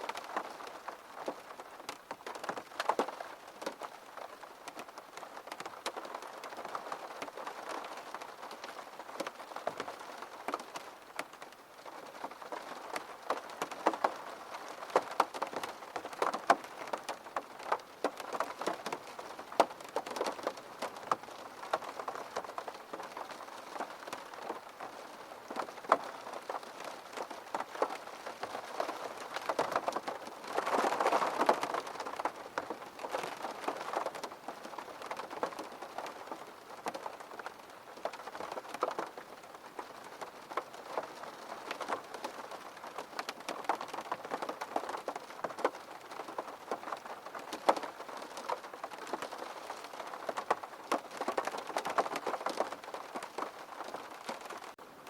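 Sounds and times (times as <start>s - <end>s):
rain drops ticking on hard surface: 0.0s - 55.0s.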